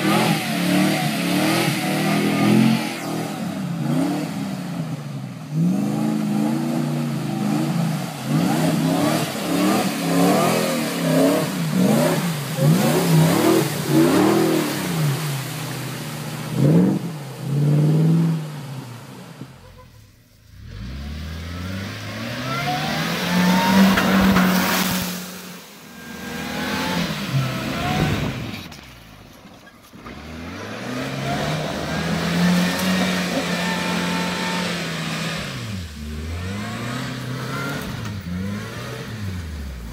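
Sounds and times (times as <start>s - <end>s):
engines revving hard: 0.0s - 19.0s, 20.5s - 28.8s, 29.9s - 39.9s.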